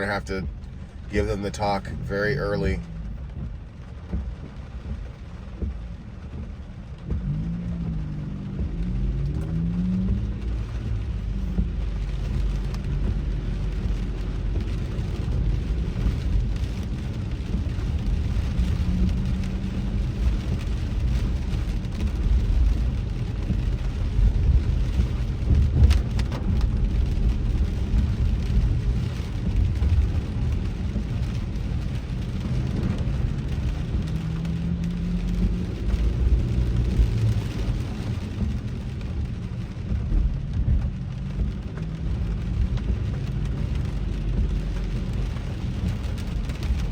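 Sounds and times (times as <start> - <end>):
car engine and tyres rumbling: 0.0 - 46.9
rain hissing on car: 0.0 - 46.9.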